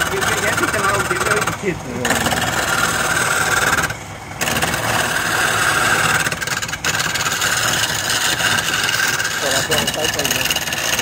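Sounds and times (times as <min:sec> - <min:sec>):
chisel cutting spinning wood: 0:00.0 - 0:11.0
wood lathe running: 0:00.0 - 0:11.0.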